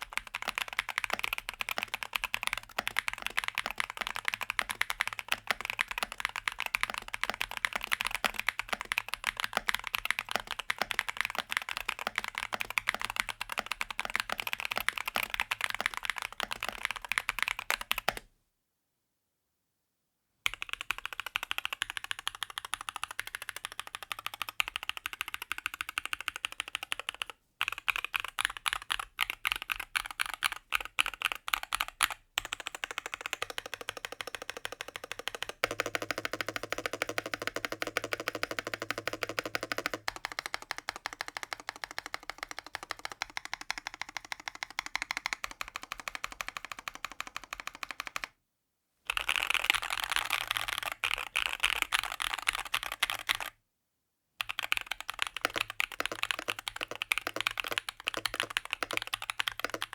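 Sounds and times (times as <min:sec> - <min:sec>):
mechanical keyboard typing: 0:00.0 - 0:18.2, 0:20.5 - 0:48.3, 0:49.1 - 0:53.5, 0:54.4 - 0:59.9.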